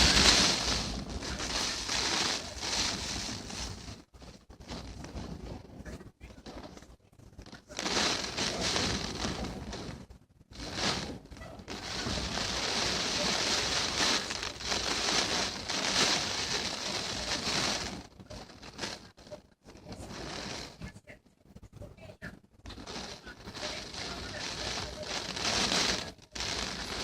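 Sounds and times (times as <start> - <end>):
storm wind gusting through window: 0.0 - 27.0.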